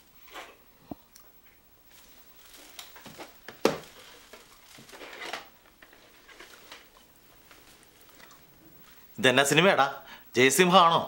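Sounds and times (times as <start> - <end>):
apple crunching and chewing: 0.2 - 9.2.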